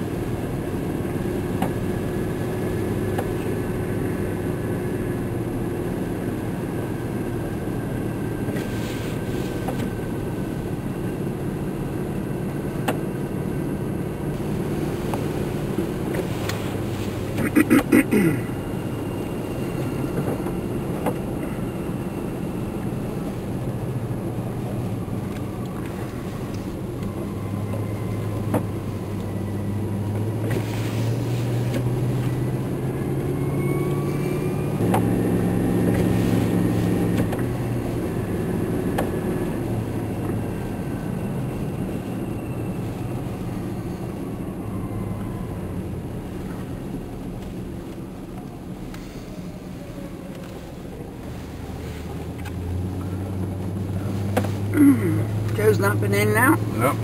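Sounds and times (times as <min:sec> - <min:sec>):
vehicle engine from inside cabin: 0:00.0 - 0:57.0.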